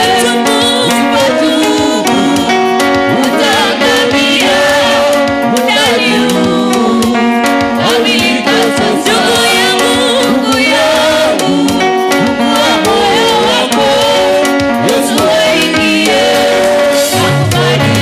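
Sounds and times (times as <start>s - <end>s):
choir singing gospel song: 0.0s - 18.0s
instrumental backing with beat: 0.0s - 18.0s.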